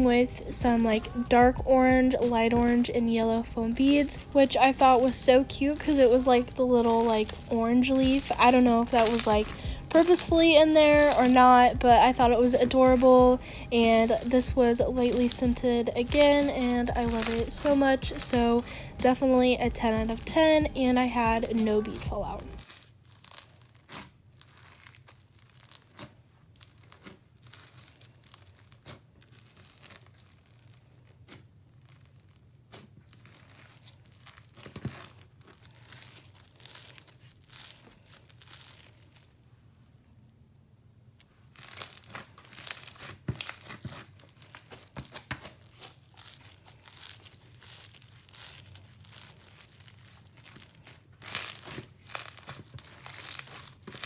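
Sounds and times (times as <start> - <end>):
slime crackling and popping: 0.0 - 39.4, 41.2 - 54.0.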